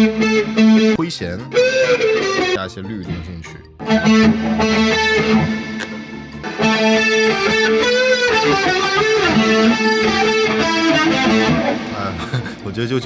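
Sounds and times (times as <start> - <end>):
electric guitar riff: 0.0 - 12.9.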